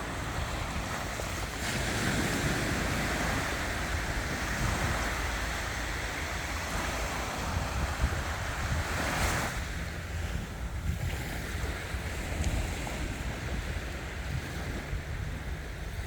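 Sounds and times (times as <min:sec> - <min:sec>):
sea waves washing on shore: 0:00.0 - 0:16.0
wind rumble on microphone: 0:00.0 - 0:16.0.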